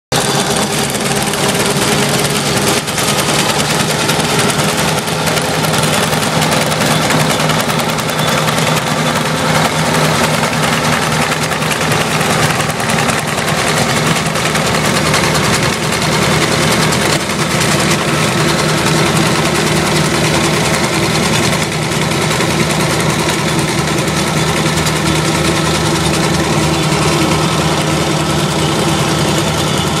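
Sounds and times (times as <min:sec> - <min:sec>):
tractor diesel engine running: 0:00.1 - 0:30.0.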